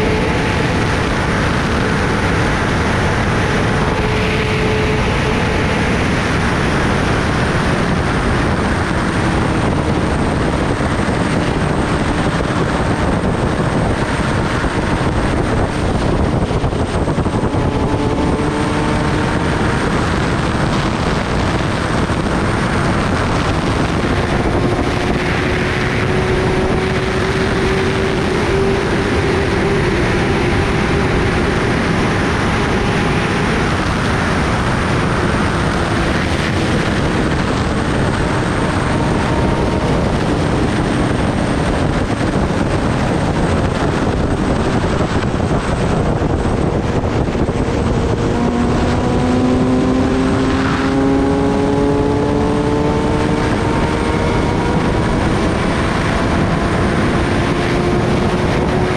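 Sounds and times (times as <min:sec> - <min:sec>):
motorcycle engine drone: 0:00.0 - 0:58.9
wind rushing over microphone: 0:00.0 - 0:58.9.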